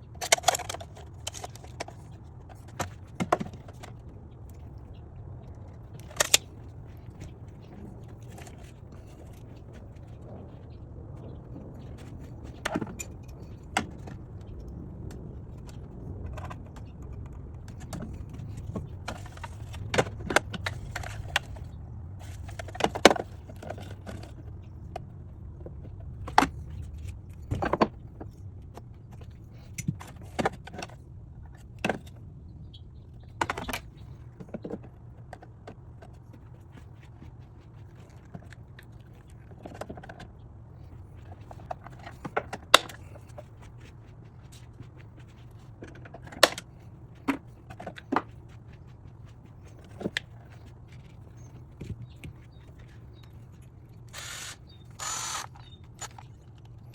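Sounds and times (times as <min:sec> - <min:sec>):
parts clicking and rattling: 0:00.0 - 0:32.2, 0:33.1 - 0:56.9
steady low hum: 0:00.0 - 0:56.9.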